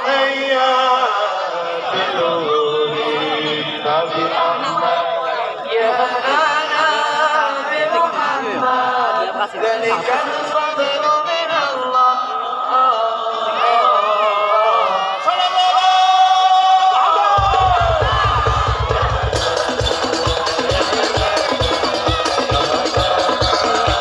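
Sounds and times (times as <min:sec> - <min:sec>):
group chanting devotional song: 0:00.0 - 0:15.2, 0:17.2 - 0:24.0.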